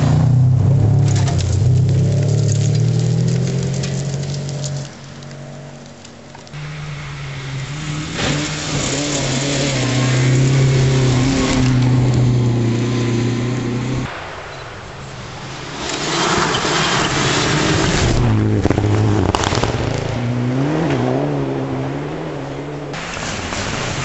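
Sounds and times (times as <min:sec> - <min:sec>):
rally car engine revving: 0:00.0 - 0:14.1, 0:15.8 - 0:24.0.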